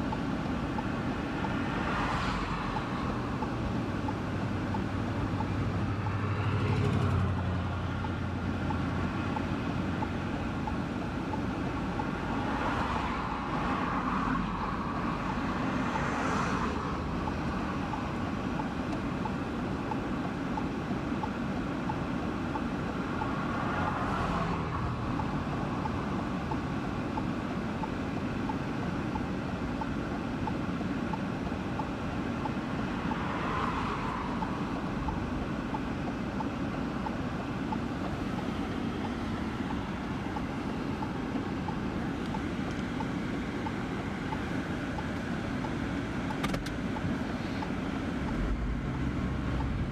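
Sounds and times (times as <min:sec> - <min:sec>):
car road and wind noise: 0:00.0 - 0:49.9.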